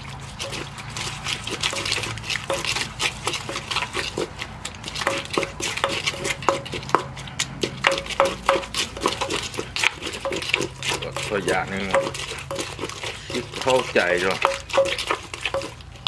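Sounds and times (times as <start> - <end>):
pestle pounding in a mortar: 0.3 - 16.0.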